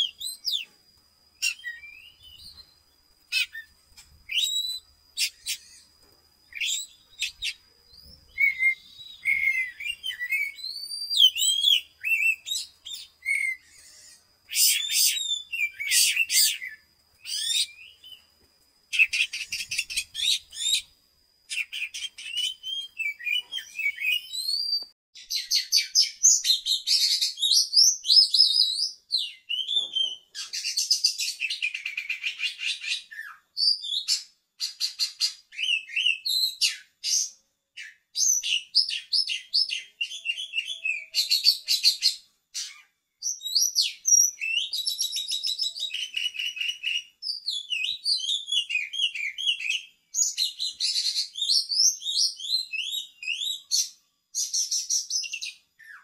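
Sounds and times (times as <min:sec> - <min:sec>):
songbird singing trills and whistles: 0:00.0 - 0:56.0.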